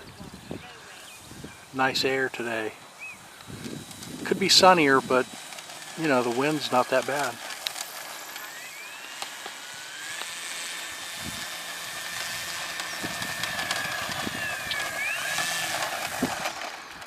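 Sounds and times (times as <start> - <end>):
model airplane electric motor whining: 0.0 - 17.0.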